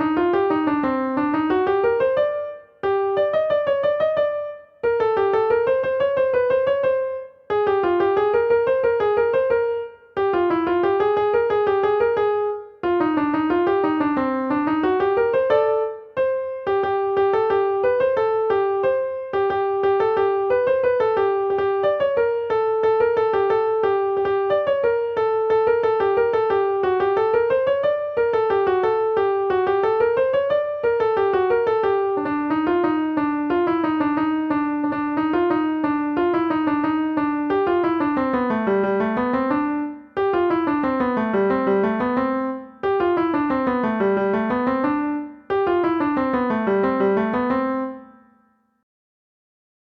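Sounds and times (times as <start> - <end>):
keyboard melody: 0.0 - 48.7.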